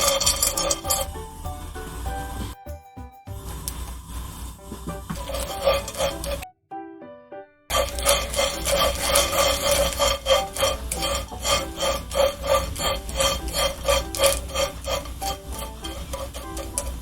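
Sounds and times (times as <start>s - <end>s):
spatula scraping frying pan: 0.0s - 2.6s, 3.3s - 6.4s, 7.7s - 17.0s
soft background music: 0.0s - 17.0s.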